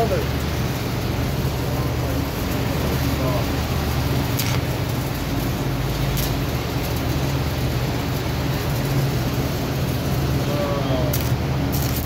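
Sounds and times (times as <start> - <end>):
welder electrical hum: 0.0 - 12.0.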